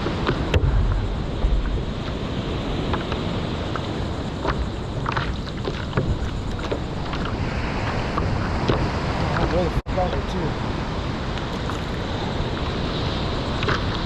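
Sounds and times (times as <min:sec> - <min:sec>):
seawater rushing and splashing: 0:00.0 - 0:14.0
steady low rumble: 0:00.0 - 0:14.0
wind buffeting microphone: 0:00.0 - 0:14.0.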